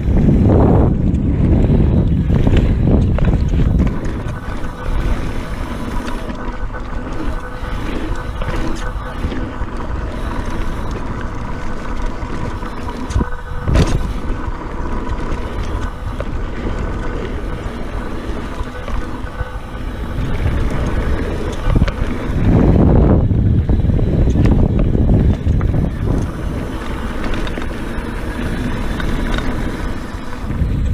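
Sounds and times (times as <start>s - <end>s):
tyres rumbling on dirt: 0.0s - 30.9s
wind buffeting microphone: 0.0s - 30.9s.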